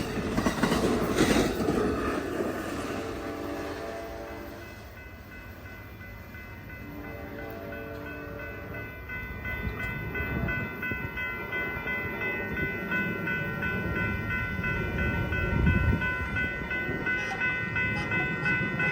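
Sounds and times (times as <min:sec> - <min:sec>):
train cars rumbling past: 0:00.0 - 0:18.9.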